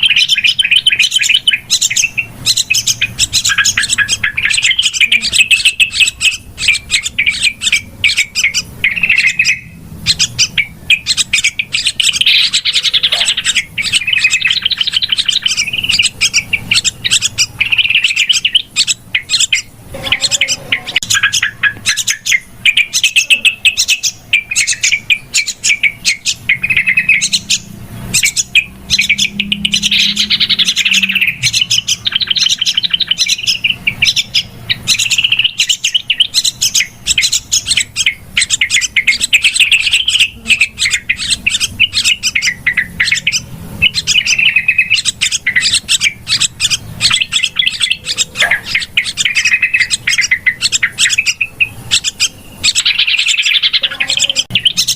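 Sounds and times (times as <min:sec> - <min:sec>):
bulbuls chattering: 0:00.0 - 0:54.9.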